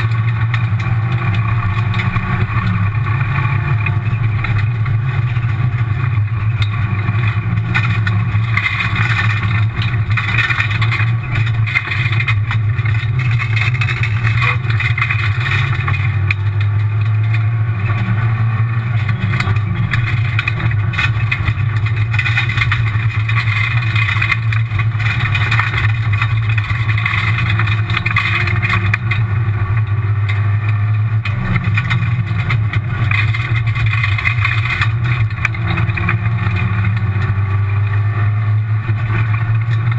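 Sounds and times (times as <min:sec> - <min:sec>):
gravel and tyre noise: 0:00.0 - 0:39.9
rally car engine under load: 0:00.0 - 0:39.9.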